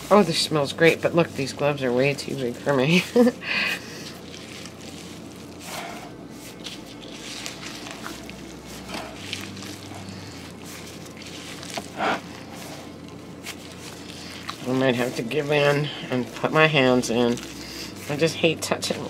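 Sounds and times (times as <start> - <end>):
meat mixture squishing: 0.0 - 19.0.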